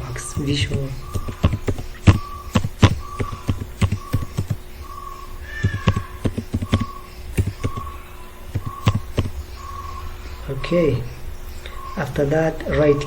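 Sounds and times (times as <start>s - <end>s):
keyboard keys clacking: 0.0s - 11.1s.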